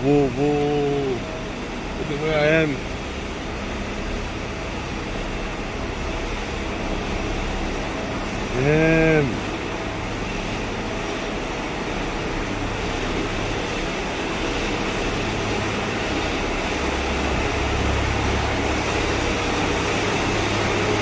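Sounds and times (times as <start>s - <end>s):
mechanical hum and whir: 0.0s - 21.0s.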